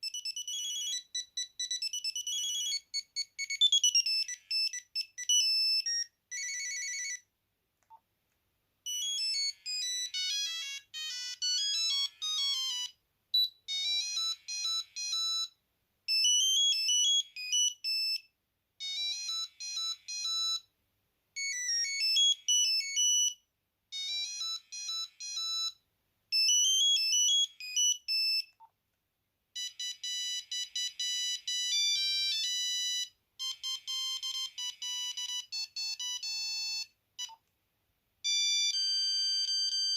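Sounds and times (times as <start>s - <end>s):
monophonic phone ringtone: 0.0s - 7.3s, 8.9s - 20.7s, 21.4s - 28.6s, 29.6s - 37.4s, 38.2s - 39.9s.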